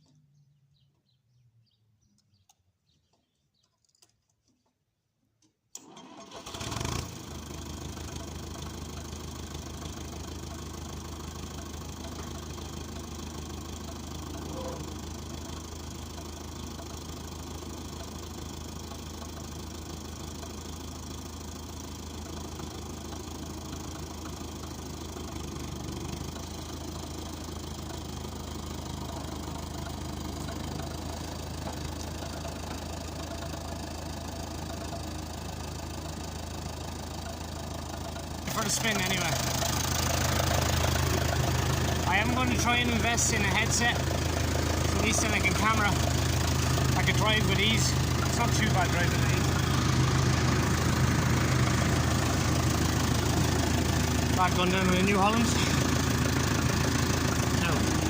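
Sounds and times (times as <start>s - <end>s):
diesel engine cranking and idling: 5.7s - 58.0s.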